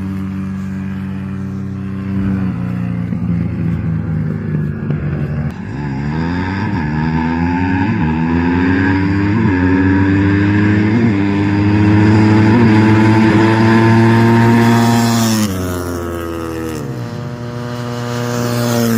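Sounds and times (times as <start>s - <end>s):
motocross bike engine revving: 0.0s - 18.9s.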